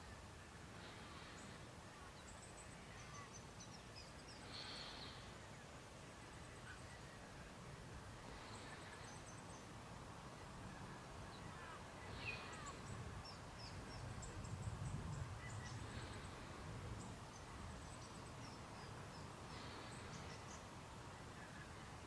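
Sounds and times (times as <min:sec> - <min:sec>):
birds chirping: 0:00.0 - 0:09.9, 0:10.6 - 0:22.0.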